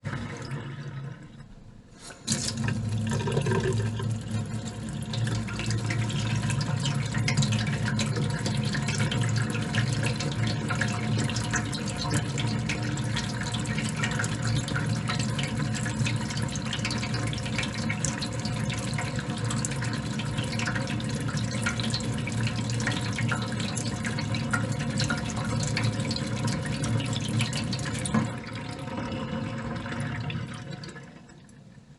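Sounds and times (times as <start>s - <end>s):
tap water running into sink: 0.0s - 31.6s
water draining from sink: 0.0s - 31.9s.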